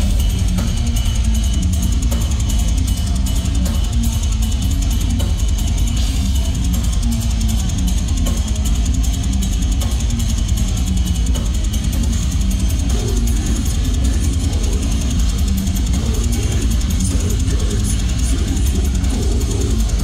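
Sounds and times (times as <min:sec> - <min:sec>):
distorted guitars and bass: 0:00.0 - 0:20.0
fast drumming and cymbals: 0:00.0 - 0:20.0.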